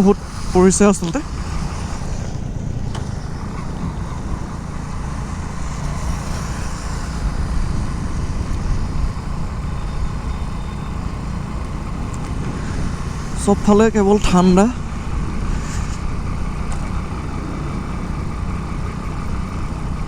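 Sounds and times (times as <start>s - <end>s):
motorcycle engine rumble: 0.0s - 20.0s
wind noise: 0.0s - 20.0s.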